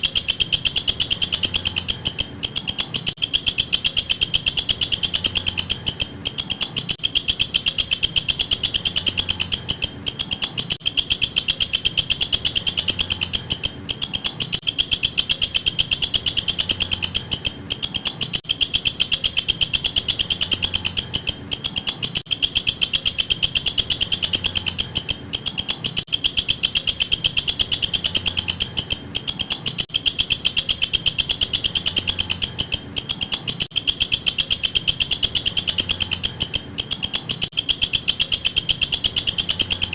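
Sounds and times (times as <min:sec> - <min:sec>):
insect chirring: 0:00.0 - 0:39.9.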